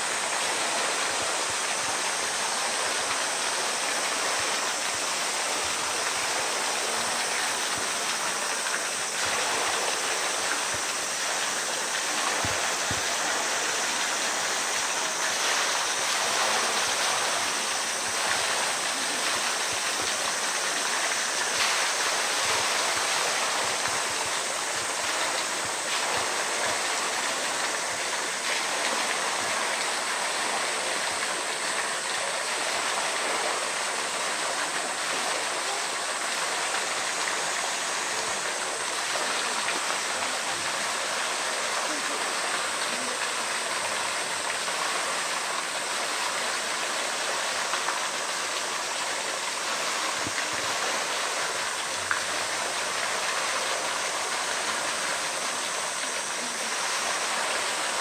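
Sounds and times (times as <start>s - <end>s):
water pouring into a pool: 0.0s - 58.0s.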